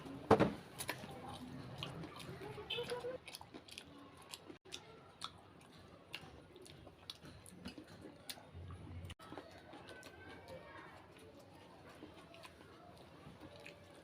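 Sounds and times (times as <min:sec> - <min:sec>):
person chewing crunchy food: 0:00.7 - 0:14.0.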